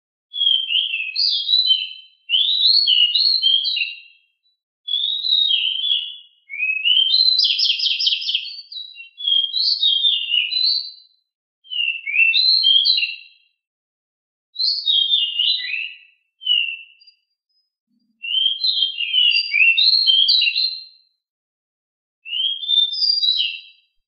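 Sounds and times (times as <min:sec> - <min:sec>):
songbird singing: 0:00.3 - 0:04.3, 0:04.9 - 0:11.1, 0:11.7 - 0:13.2, 0:14.6 - 0:21.0, 0:22.3 - 0:24.0.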